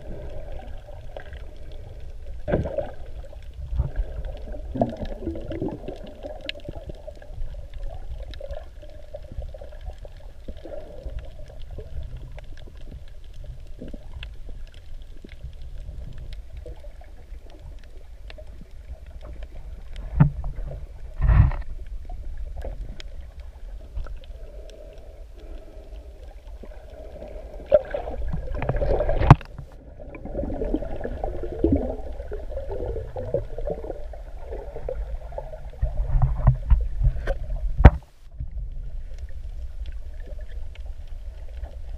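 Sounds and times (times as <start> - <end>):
underwater rumble: 0.0 - 41.9
water gurgling: 0.0 - 41.9
faint ticks: 0.2 - 29.8, 35.3 - 41.9.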